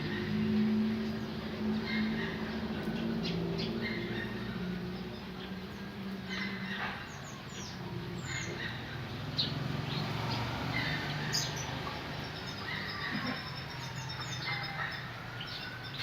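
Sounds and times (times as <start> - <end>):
canaries chirping: 0.0 - 16.0.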